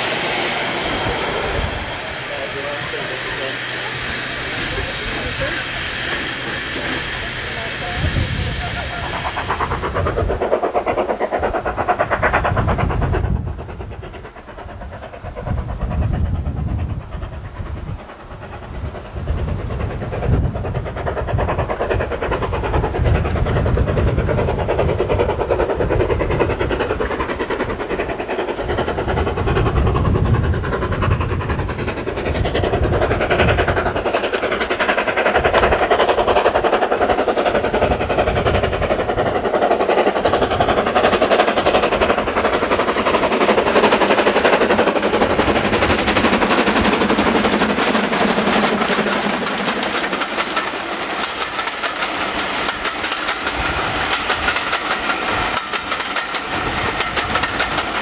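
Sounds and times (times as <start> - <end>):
steam locomotive working: 0.0 - 58.0.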